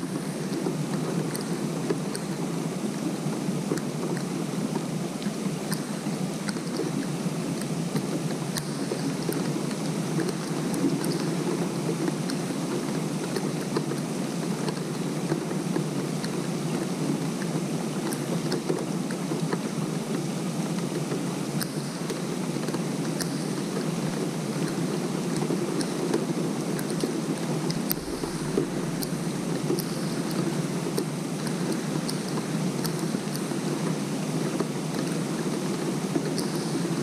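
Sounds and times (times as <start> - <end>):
rain falling on pond: 0.0 - 37.0.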